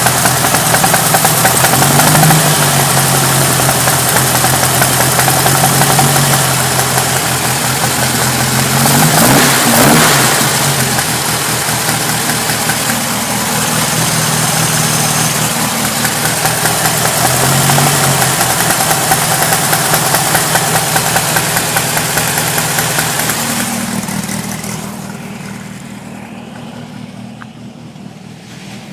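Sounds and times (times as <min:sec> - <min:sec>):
car engine running and revving: 0:00.0 - 0:28.9
rapid engine rattle: 0:00.0 - 0:28.9.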